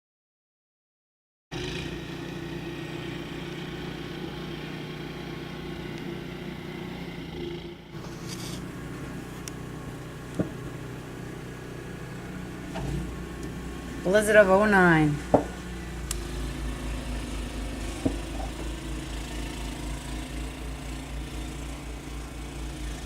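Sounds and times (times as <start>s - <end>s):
engine running: 1.5s - 23.0s.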